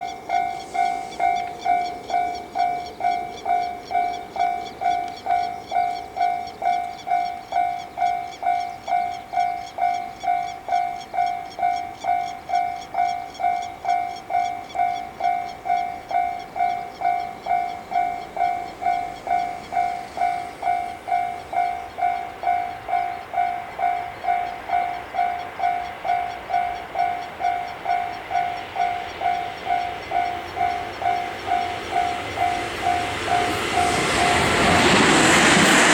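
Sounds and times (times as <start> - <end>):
level crossing warning bell ringing: 0.0 - 35.6
electric train approaching: 0.0 - 35.9.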